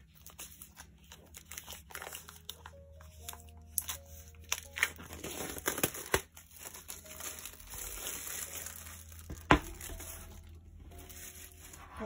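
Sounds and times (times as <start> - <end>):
plastic shrink wrap crinkling: 0.0 - 12.0.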